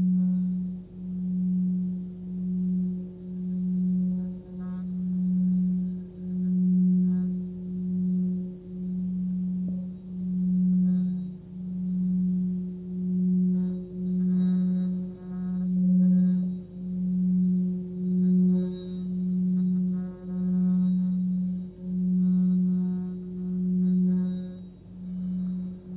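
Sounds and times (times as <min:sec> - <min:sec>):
singing bowl low tone: 0:00.0 - 0:25.9.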